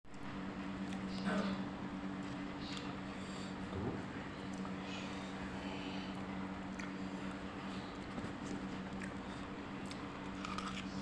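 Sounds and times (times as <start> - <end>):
steady low hum: 0.1 - 11.0.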